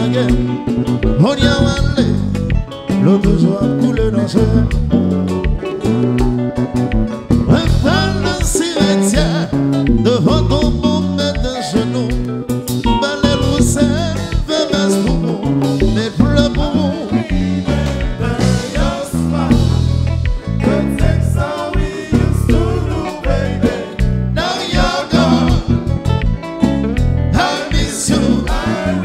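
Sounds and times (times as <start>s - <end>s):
person singing: 0.0s - 2.2s, 2.9s - 4.9s, 7.4s - 12.2s, 12.8s - 25.9s, 27.4s - 29.0s
live band music: 0.0s - 29.0s.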